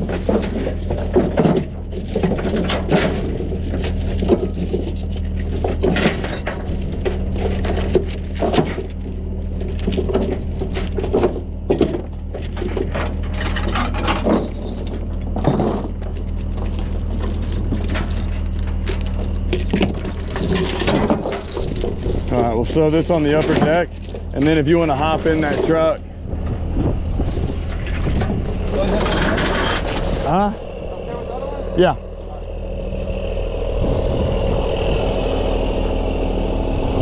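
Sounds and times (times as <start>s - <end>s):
chains clinking and rattling: 0.0s - 26.1s, 27.2s - 33.8s
truck engine idling: 0.0s - 37.0s.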